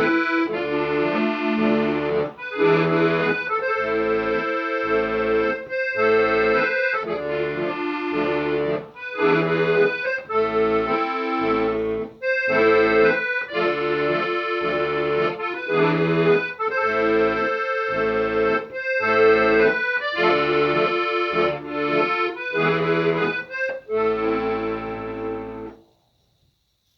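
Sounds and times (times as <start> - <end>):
accordion music: 0.0 - 25.8.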